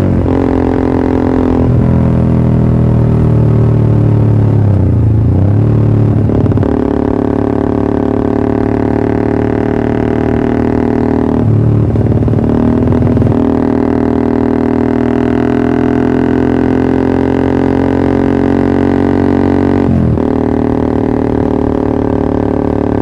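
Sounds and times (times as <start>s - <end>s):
motorcycle engine droning: 0.0s - 23.0s.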